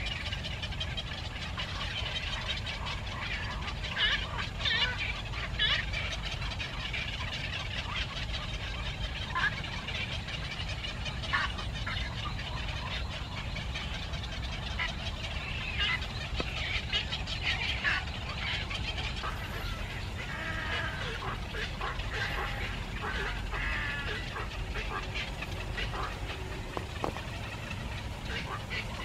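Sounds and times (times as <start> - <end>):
small birds cheeping: 0.0 - 29.0
steady low rumble: 0.0 - 29.0.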